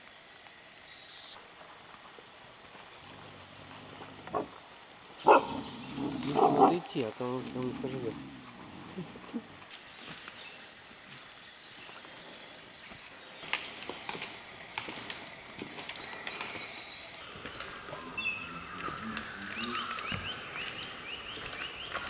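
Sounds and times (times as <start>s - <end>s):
small songbirds chirping: 0.0s - 22.0s.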